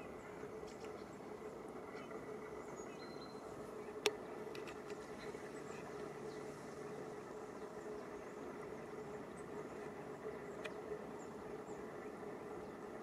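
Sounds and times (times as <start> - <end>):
low hum: 0.0 - 13.0
outdoor background hiss: 0.0 - 13.0.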